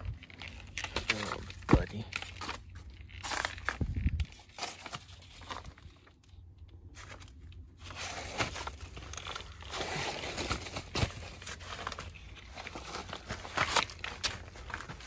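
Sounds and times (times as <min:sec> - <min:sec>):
person crawling on dirt: 0:00.0 - 0:06.2, 0:06.8 - 0:15.0.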